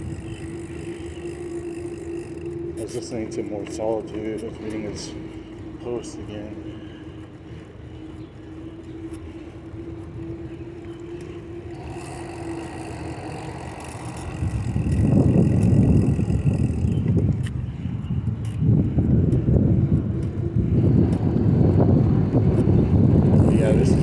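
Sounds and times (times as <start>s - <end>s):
steady hum: 0.0s - 24.0s
wind rumbling on microphone: 0.0s - 24.0s.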